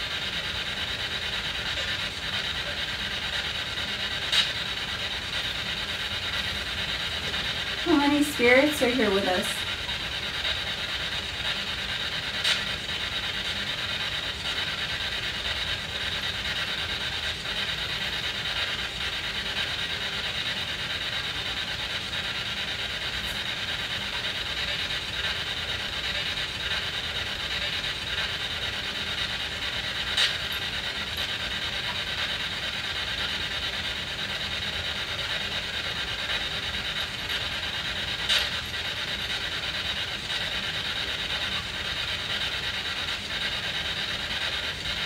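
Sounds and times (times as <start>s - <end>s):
choppy radio static hiss: 0.0s - 45.0s.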